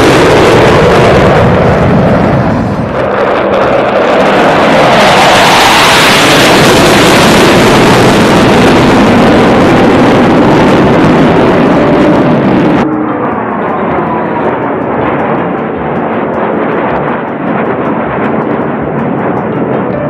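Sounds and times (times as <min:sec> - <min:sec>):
jet roar overhead: 0:00.0 - 0:20.0.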